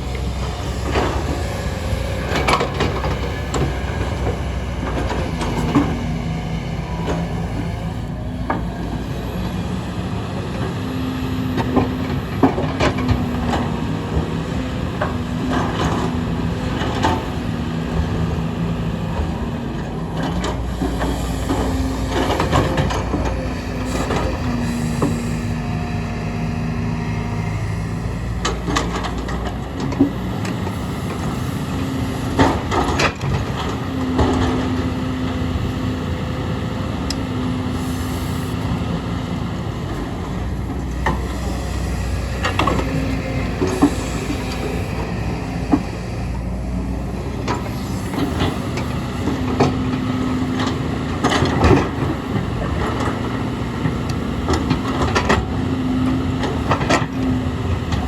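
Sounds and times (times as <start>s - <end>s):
excavator diesel engines under load: 0.0s - 58.0s.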